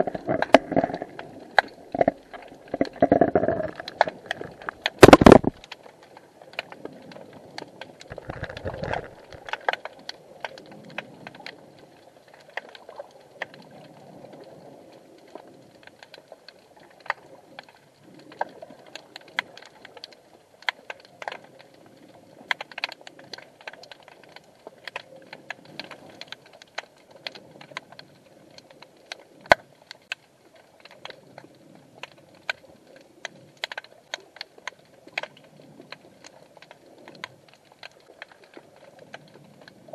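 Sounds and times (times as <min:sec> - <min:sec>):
underwater clicks and ticks: 0:00.0 - 0:39.9.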